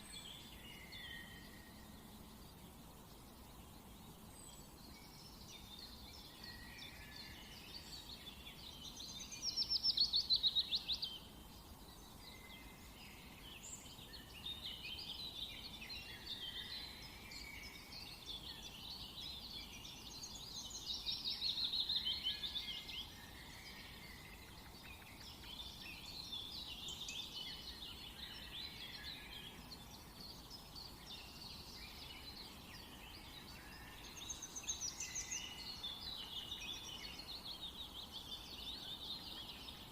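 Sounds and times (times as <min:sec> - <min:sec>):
faint background hiss: 0:00.0 - 0:39.9
songbirds singing: 0:00.0 - 0:39.9.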